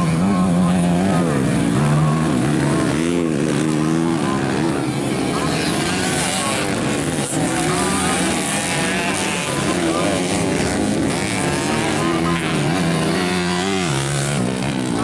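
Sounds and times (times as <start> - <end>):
commentator over loudspeaker: 0.0 - 15.0
dirt bike engines revving: 0.0 - 15.0.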